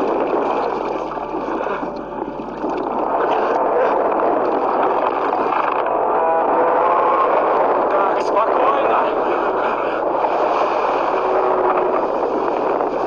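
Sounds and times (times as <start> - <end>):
rushing water-like noise: 0.0 - 13.0.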